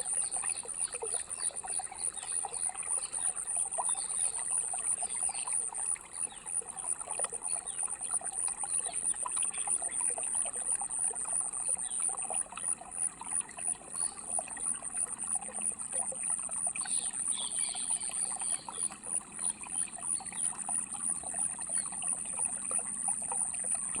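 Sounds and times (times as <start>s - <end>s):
stream trickling and babbling: 0.0s - 24.0s.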